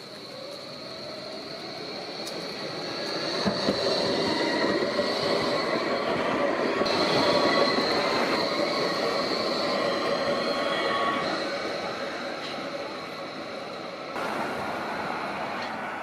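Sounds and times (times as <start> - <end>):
tram high-pitched whine: 0.0 - 16.0
tram rolling rumble: 0.0 - 16.0.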